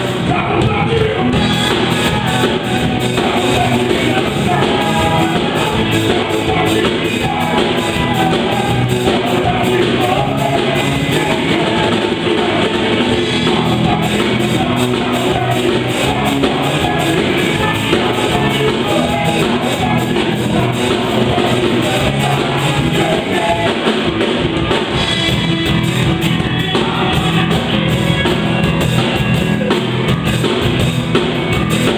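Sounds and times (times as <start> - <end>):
person singing: 0.0 - 25.4, 26.1 - 30.0
drum kit steady beat: 0.0 - 31.9
electric guitar: 0.0 - 31.9.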